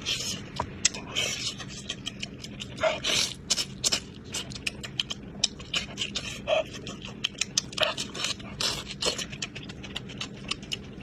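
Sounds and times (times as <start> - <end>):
wet chewing and lip smacking: 0.1 - 11.0.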